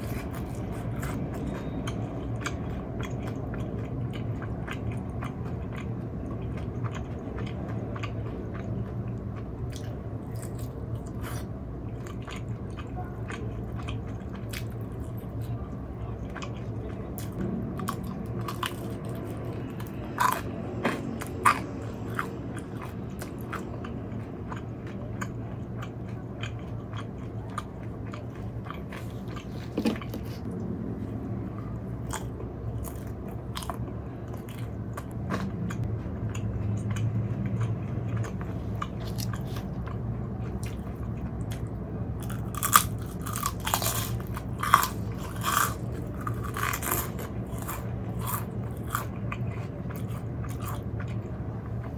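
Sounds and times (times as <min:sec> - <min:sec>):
person chewing crunchy food: 0:00.0 - 0:51.9
steady low hum: 0:00.0 - 0:51.9.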